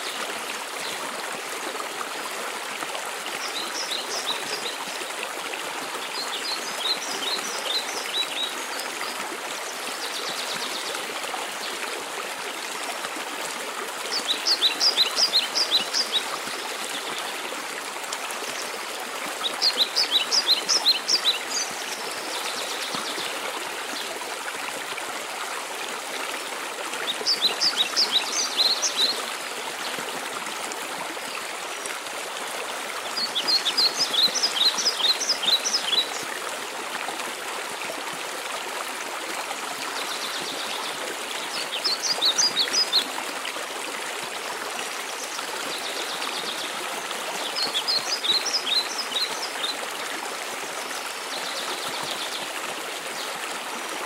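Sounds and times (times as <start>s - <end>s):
waterfall rushing water: 0.0s - 54.0s.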